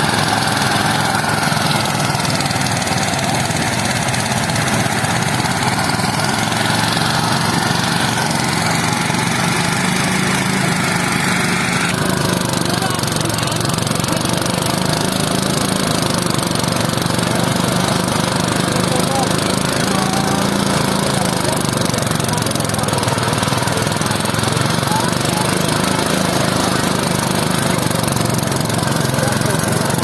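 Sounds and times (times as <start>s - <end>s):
small engine running under load: 0.0s - 30.0s.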